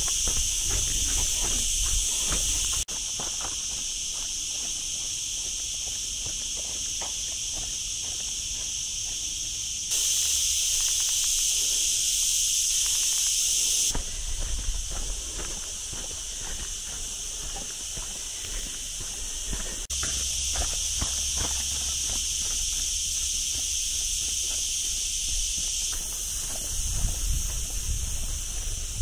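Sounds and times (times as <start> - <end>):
footsteps on dirt path: 0.0 - 9.3, 12.7 - 29.0
cicadas shrilling: 0.0 - 29.0.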